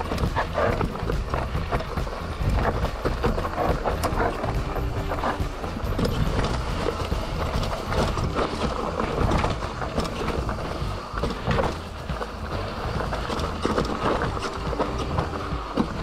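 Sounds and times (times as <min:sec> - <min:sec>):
bike frame rattling: 0:00.0 - 0:16.0
wind and tyre rumble: 0:00.0 - 0:16.0.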